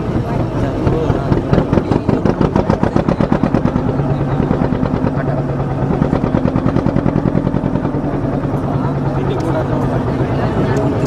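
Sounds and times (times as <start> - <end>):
motor boat engine chugging: 0.0 - 11.0.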